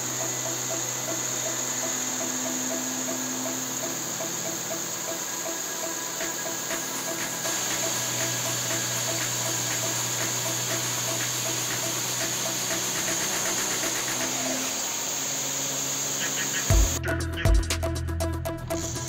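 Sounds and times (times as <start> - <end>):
angle grinders whining: 0.0 - 17.0.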